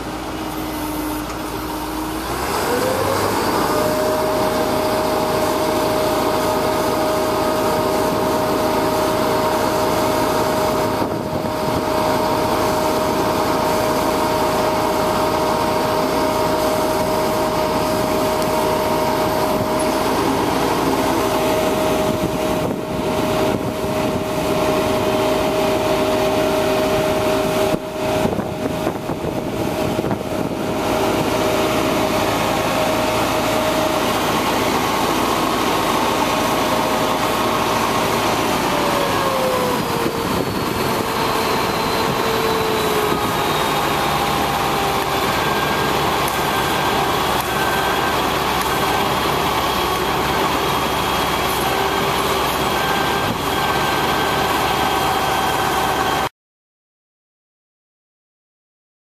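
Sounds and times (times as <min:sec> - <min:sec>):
truck hydraulic whine: 0:00.0 - 0:56.3.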